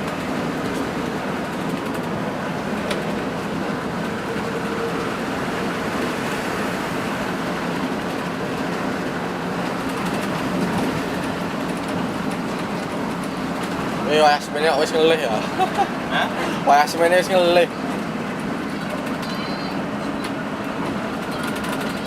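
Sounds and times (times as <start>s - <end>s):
coach engine and road noise: 0.0s - 22.0s.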